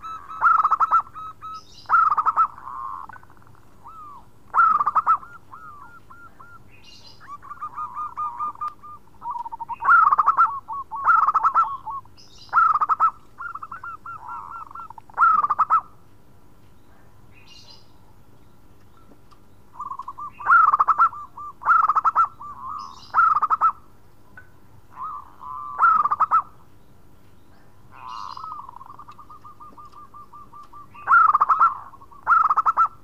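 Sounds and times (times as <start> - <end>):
dove cooing: 0.0 - 15.9, 19.8 - 23.8, 24.9 - 26.6, 27.9 - 33.0.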